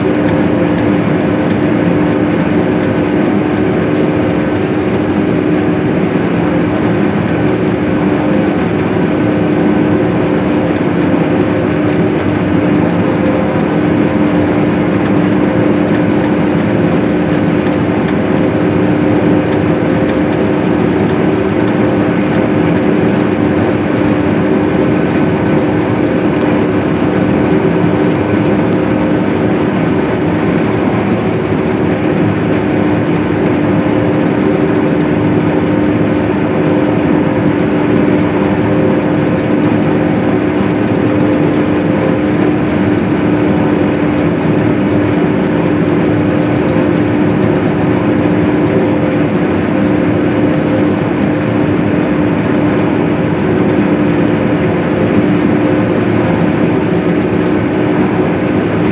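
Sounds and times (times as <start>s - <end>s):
swather machine drone: 0.0s - 58.9s.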